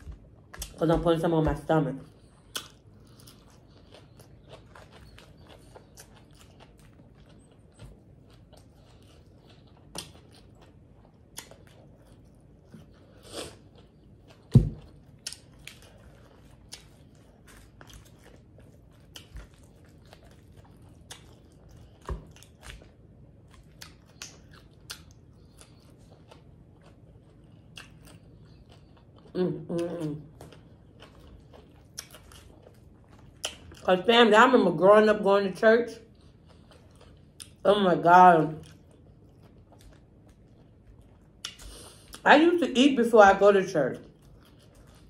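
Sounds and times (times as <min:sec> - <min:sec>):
chewing and biting salad: 0:00.0 - 0:34.1, 0:35.5 - 0:37.6, 0:38.3 - 0:42.2, 0:44.0 - 0:45.0.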